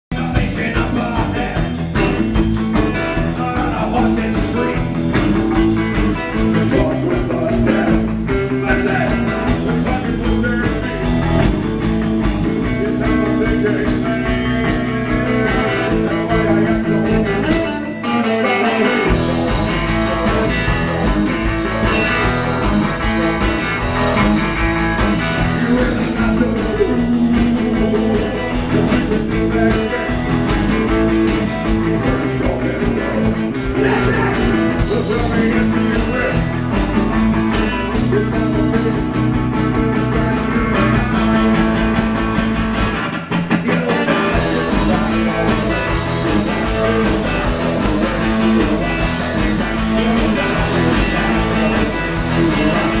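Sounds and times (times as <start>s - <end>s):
live rock band playing: 0.1s - 53.0s.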